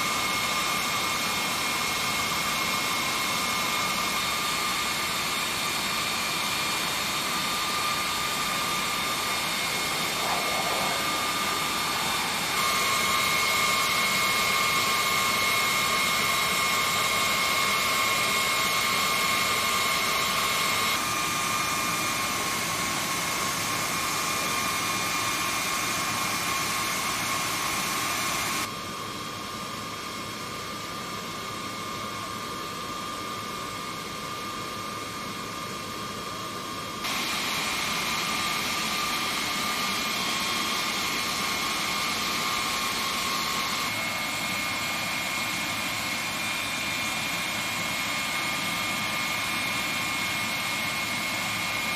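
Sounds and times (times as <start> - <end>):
jet turbine whine: 0.0 - 51.9.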